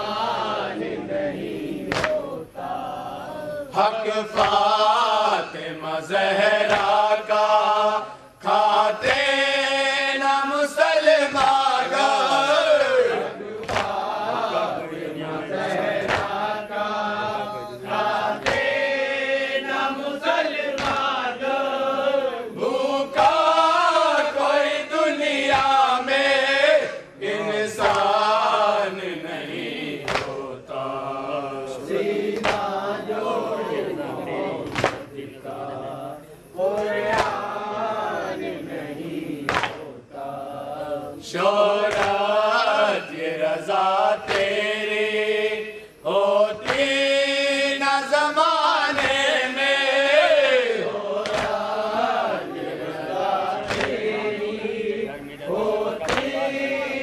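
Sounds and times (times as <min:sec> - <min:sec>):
men chanting through a microphone: 0:00.0 - 0:57.0.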